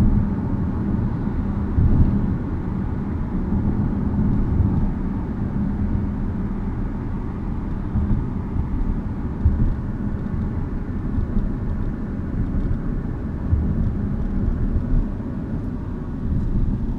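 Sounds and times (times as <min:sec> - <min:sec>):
road and tyre rumble: 0:00.0 - 0:16.9.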